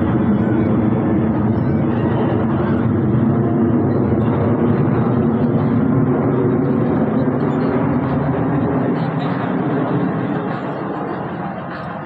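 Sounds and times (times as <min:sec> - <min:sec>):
jet aircraft flying overhead: 0:00.0 - 0:12.0.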